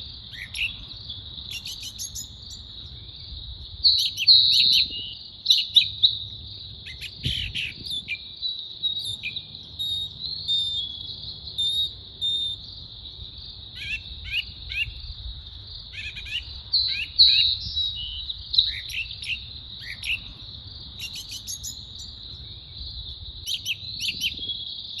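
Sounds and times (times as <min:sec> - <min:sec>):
insects droning: 0:00.0 - 0:25.0
songbirds chirping: 0:00.0 - 0:25.0.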